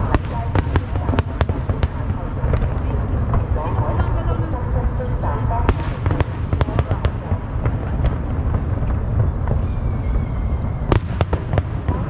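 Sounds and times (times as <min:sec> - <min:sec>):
fireworks rumbling: 0:00.0 - 0:12.0
fireworks sharp cracks: 0:00.0 - 0:12.0.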